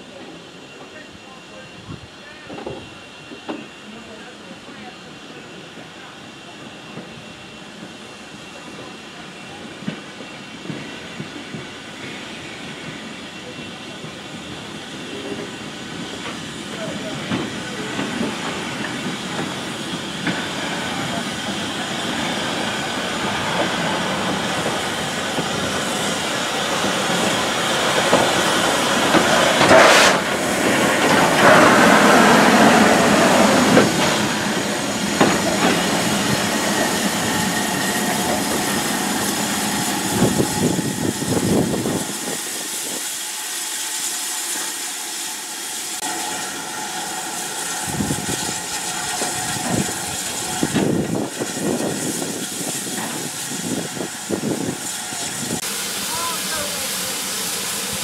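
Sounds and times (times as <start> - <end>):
steam hissing: 0.0 - 58.0.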